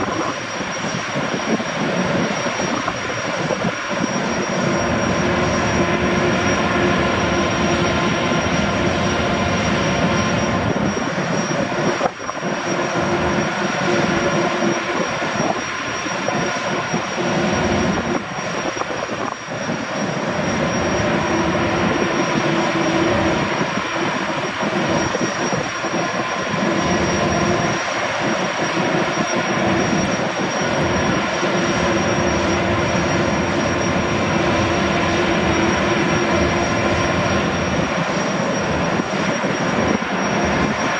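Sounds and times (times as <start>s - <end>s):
machine noise with high whine: 0.0s - 40.9s.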